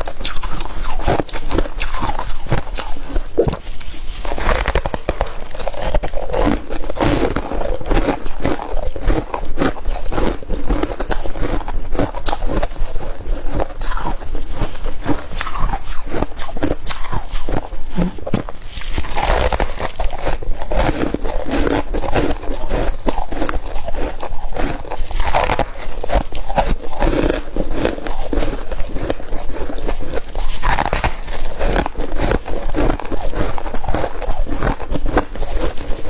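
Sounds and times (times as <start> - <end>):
frost being chewed: 0.0 - 36.0.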